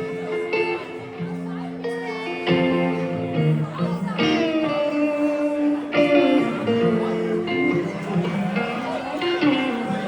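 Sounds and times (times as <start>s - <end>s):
guitar solo with pitch bends: 0.0s - 10.0s
live band music: 0.0s - 10.0s.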